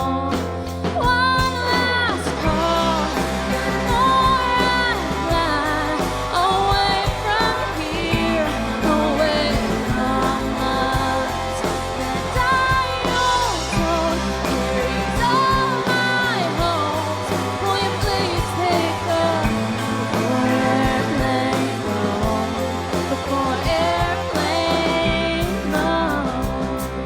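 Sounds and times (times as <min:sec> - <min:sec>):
live band playing pop-rock: 0:00.0 - 0:27.0.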